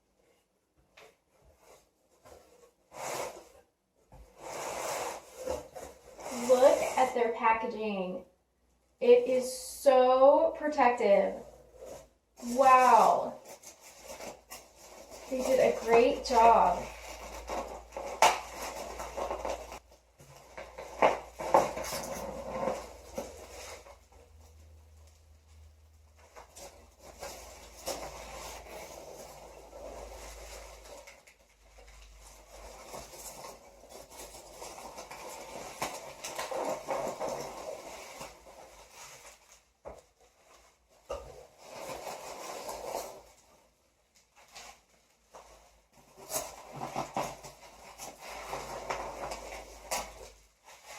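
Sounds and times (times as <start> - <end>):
packing material rustling: 1.1 - 7.4, 11.3 - 50.9.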